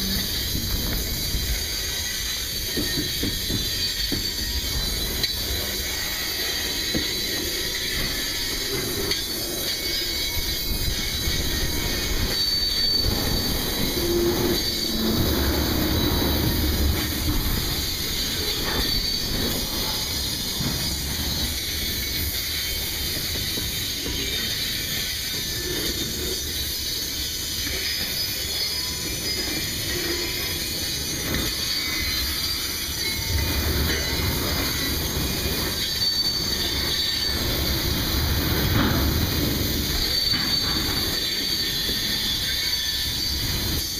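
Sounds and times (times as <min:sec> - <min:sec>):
high-pitched wheel squeals: 0:00.0 - 0:43.9
train wheels rumbling on rails: 0:00.0 - 0:43.9.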